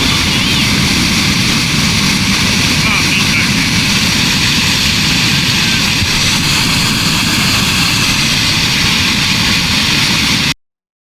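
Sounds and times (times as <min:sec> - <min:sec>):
mudflow roaring down channel: 0:00.0 - 0:10.6.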